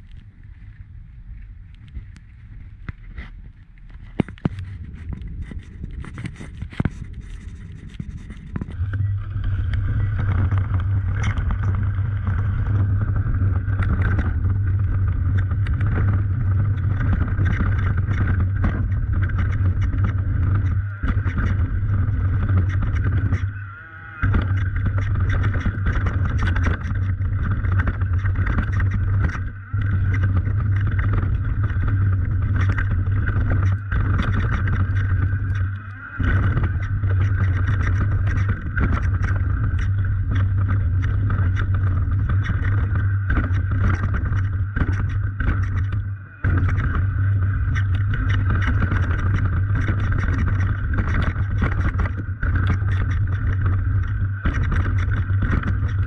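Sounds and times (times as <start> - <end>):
engine humming steadily: 0.0 - 56.0
clicks and rattles: 1.7 - 23.6, 24.2 - 56.0.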